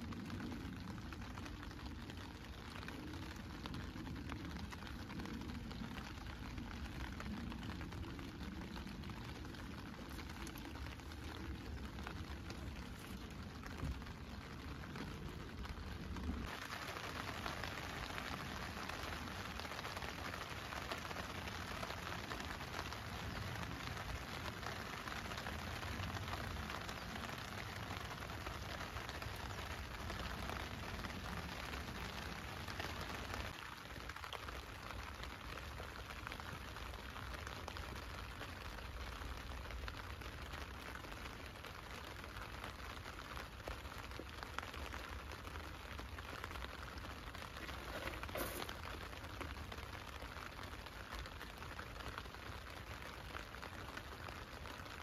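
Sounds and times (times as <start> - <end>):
rain pattering on a tent: 0.0 - 55.0.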